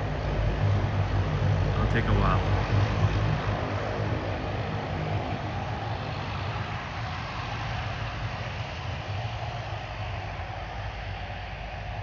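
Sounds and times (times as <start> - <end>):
airplane engines running: 0.0 - 12.0.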